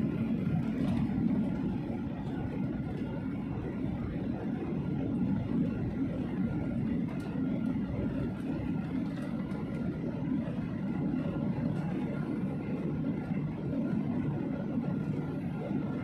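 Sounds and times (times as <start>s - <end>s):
faint steady whine: 0.0s - 16.0s
jet engine roar: 0.0s - 16.0s
wheels rumbling on runway: 0.0s - 16.0s.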